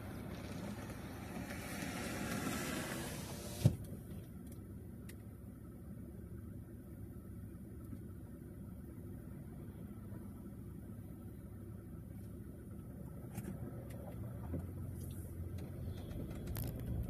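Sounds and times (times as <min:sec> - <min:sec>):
low steady rumble: 0:00.0 - 0:17.0
outside noise: 0:00.0 - 0:17.0.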